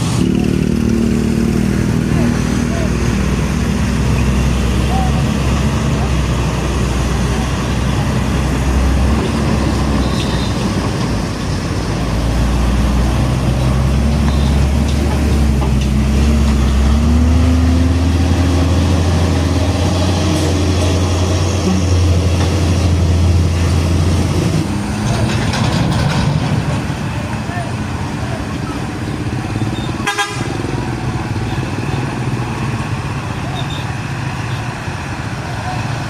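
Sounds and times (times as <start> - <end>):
diesel truck engine drone: 0.0 - 36.0
road traffic noise: 0.0 - 36.0.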